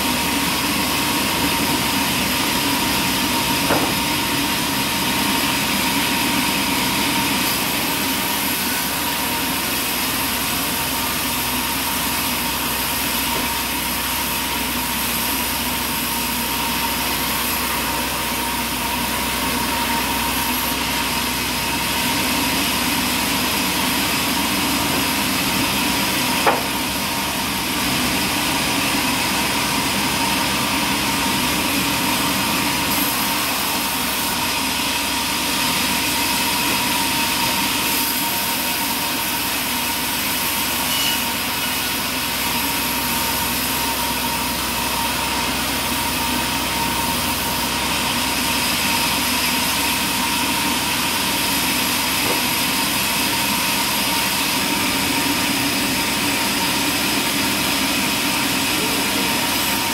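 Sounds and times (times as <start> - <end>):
band saw humming and whining: 0.0 - 59.9.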